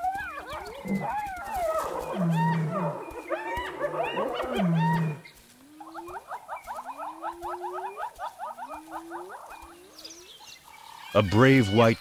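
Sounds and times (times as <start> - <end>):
hyenas calling: 0.0 - 12.0.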